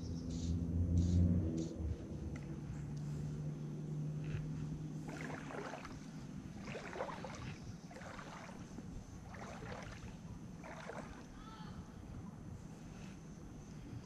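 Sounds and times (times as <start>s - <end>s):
low steady hum: 0.0s - 14.0s
wading through water: 2.6s - 14.0s.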